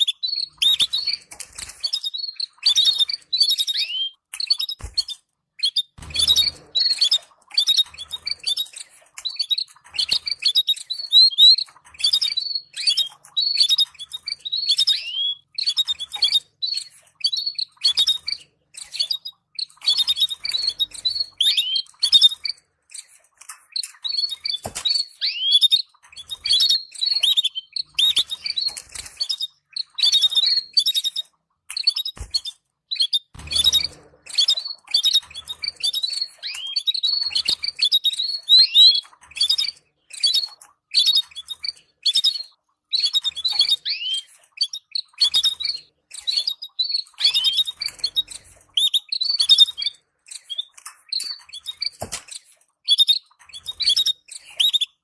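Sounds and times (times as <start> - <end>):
canaries chirping and twittering: 0.0 - 55.0.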